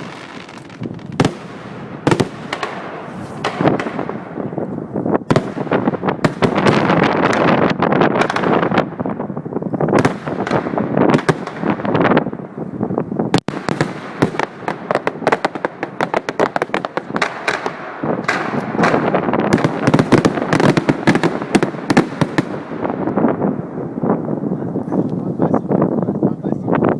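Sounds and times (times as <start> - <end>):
fireworks cracks and bangs: 0.0 - 24.7.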